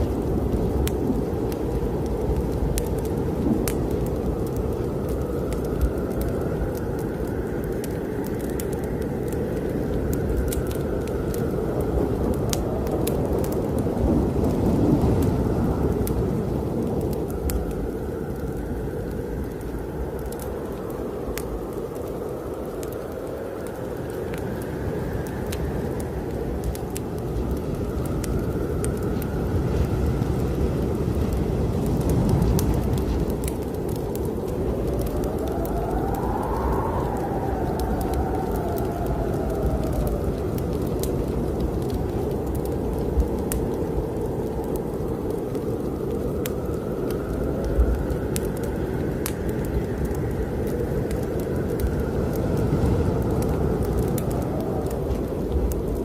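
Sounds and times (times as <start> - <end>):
strong low wind: 0.0 - 56.0
wood fire crackling and popping: 0.0 - 56.0.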